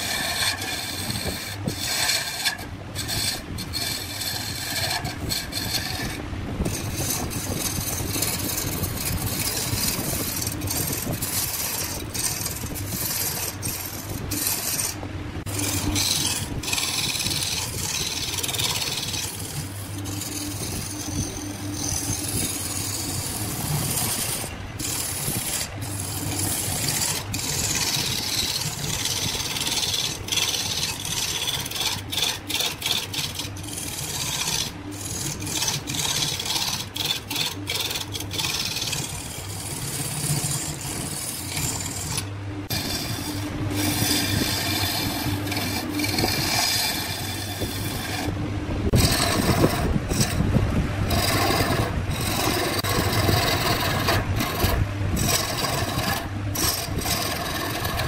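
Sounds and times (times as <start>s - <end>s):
low hum: 0.0s - 58.0s
wood lathe scraping wood: 0.0s - 58.0s.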